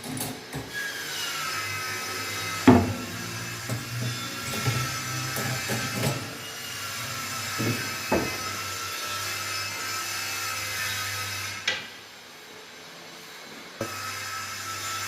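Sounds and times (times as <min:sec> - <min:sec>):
woodworking power tool running: 0:00.7 - 0:15.0.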